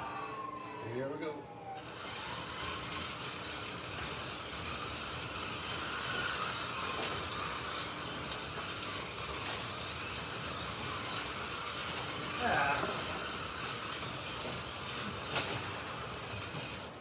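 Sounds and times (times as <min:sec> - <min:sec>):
slot cars whirring: 0:01.7 - 0:17.0.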